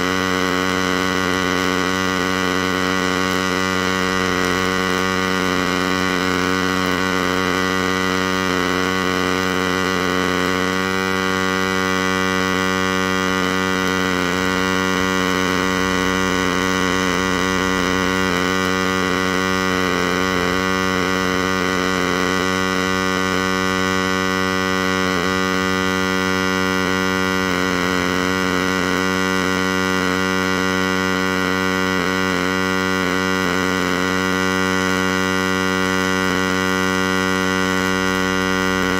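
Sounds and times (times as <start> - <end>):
welding arc buzzing: 0.0 - 38.9.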